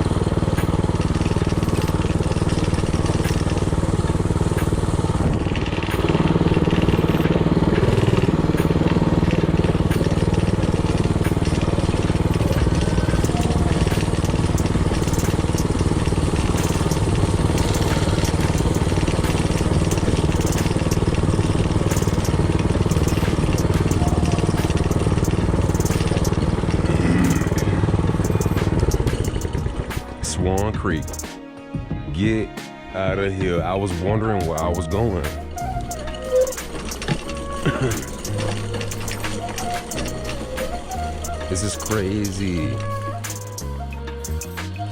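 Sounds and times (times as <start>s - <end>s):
mini bike engine running: 0.0s - 31.2s, 34.4s - 43.6s
scattered clicks: 0.6s - 31.4s, 34.4s - 44.9s.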